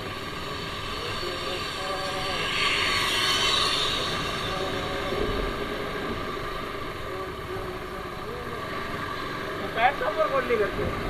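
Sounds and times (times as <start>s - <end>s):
road and rushing air noise: 0.0s - 11.0s.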